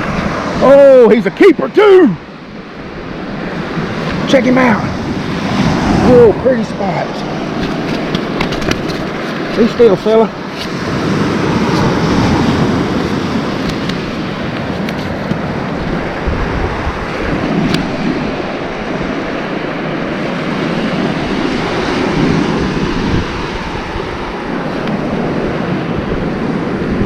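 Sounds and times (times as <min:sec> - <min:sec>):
surf breaking on beach: 0:00.0 - 0:27.0
wind buffeting microphone: 0:01.8 - 0:27.0.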